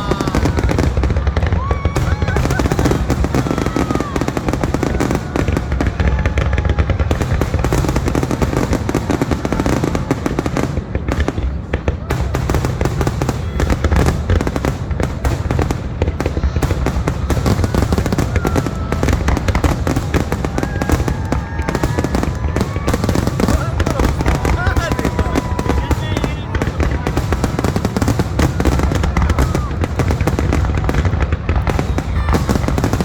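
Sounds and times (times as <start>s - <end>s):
fireworks crackling and banging: 0.0s - 33.0s.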